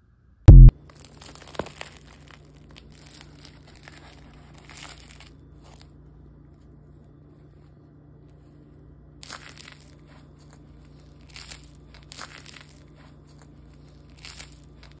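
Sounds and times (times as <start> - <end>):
pizza crust crackling torn: 0.8 - 7.2, 9.2 - 15.0.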